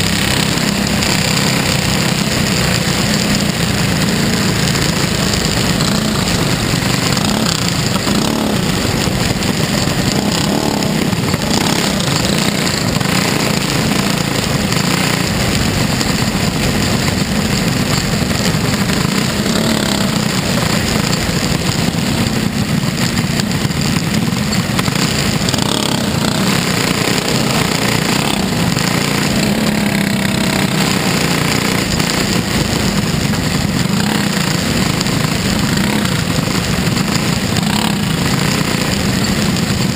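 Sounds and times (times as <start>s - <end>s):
race car engine roaring: 0.0s - 39.9s.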